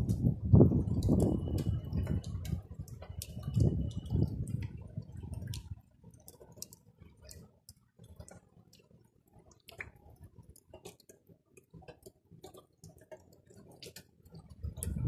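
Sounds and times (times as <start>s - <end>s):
raindrops ticking on surfaces: 0.0s - 15.0s.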